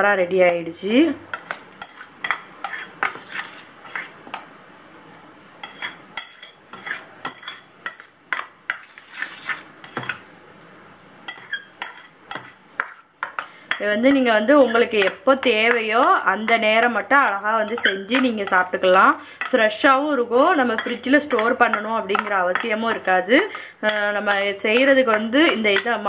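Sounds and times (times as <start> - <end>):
metal spoon stirring dough in bowl: 0.3 - 4.5, 5.6 - 10.2, 11.3 - 26.0.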